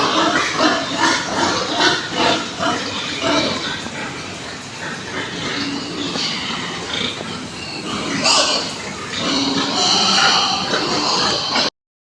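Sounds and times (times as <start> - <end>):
pigs and piglets calling: 0.0 - 11.7.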